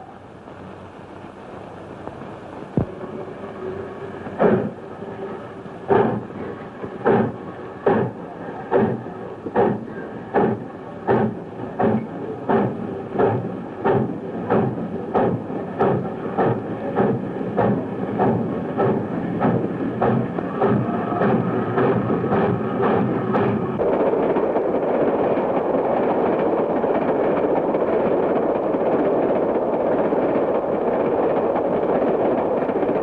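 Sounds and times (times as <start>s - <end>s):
steam locomotive exhaust chuffs: 3.0s - 31.3s.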